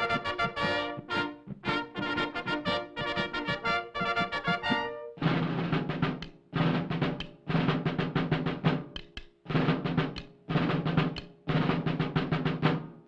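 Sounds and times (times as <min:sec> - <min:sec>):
snare drum rolls: 0:00.0 - 0:13.0.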